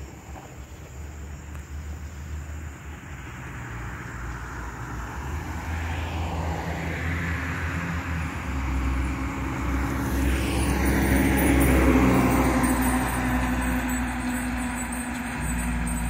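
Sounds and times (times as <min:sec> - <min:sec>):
truck engine hum: 0:01.0 - 0:16.0.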